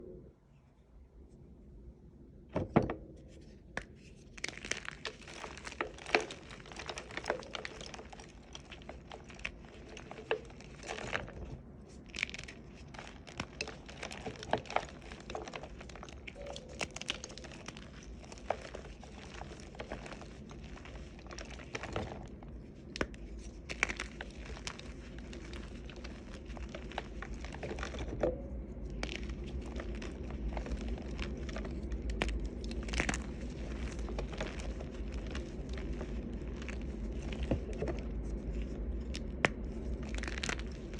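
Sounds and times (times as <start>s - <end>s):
chalk crunching and crackling: 3.3s - 40.9s.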